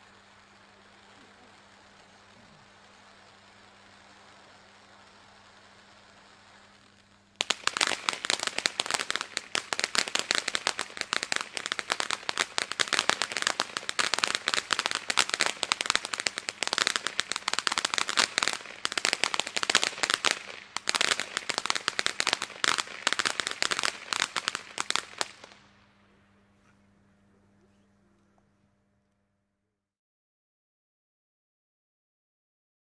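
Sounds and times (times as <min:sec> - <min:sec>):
firework fountain hiss: 0:00.0 - 0:26.4
firework crackling pops: 0:00.0 - 0:27.0.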